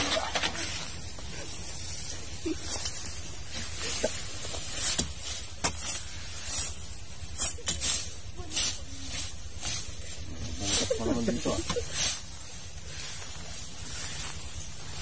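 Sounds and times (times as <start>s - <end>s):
steady low rumble: 0.0s - 15.0s
swishing through tall grass: 0.5s - 15.0s.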